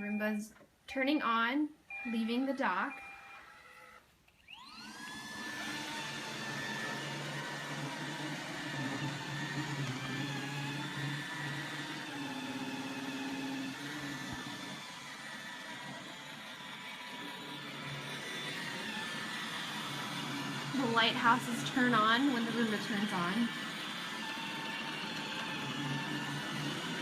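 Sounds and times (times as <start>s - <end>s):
robot vacuum motor whining: 2.1s - 27.0s.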